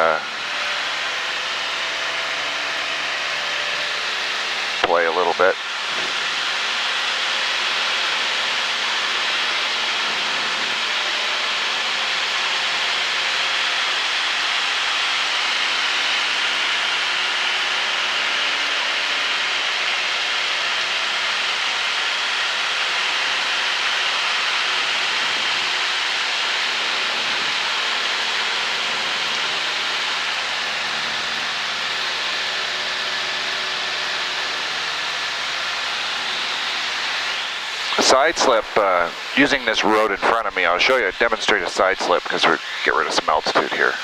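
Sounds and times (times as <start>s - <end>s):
airplane engine and propeller drone: 0.0s - 44.0s.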